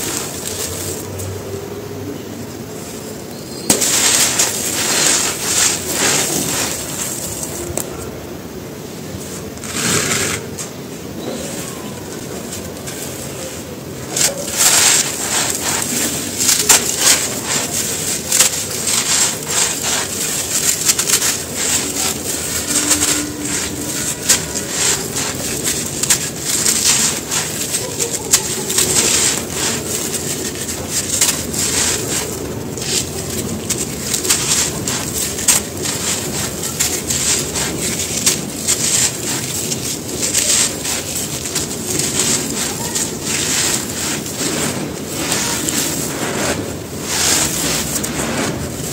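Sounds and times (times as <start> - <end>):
grit spilling: 0.0 - 1.4, 3.7 - 7.8, 11.4 - 48.9
cement crushed by hand: 3.7 - 8.0, 12.2 - 48.9.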